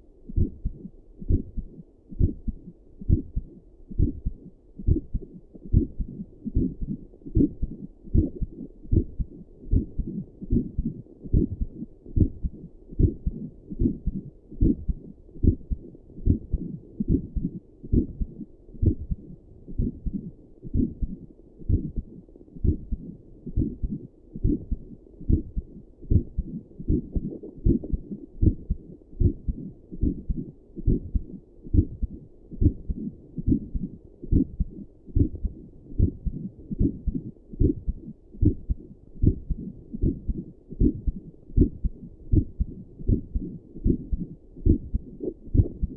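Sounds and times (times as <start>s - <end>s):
muffled heartbeat: 0.0s - 45.9s.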